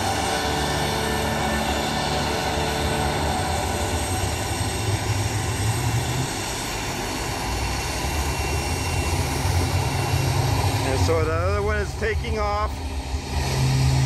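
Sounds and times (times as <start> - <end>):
turboprop engines running: 0.0 - 14.0.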